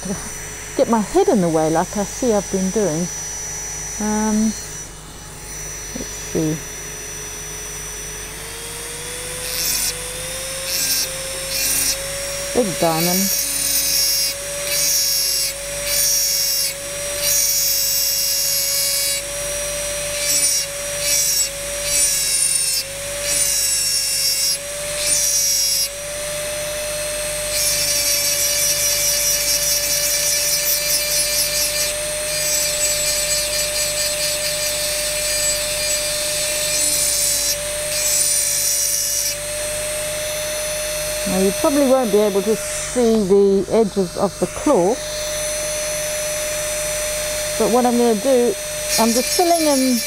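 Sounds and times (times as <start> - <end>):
rotary tool whine: 0.0 - 50.0
burr grinding glass: 8.7 - 26.6, 27.2 - 50.0.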